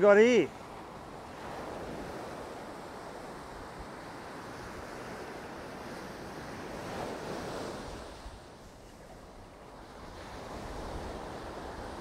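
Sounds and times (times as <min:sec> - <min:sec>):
ocean surf washing onto sand: 0:00.0 - 0:12.0.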